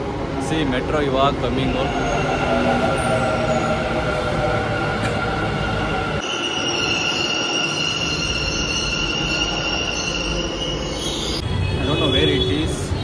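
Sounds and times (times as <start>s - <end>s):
train high-pitched whine: 0.0s - 12.4s.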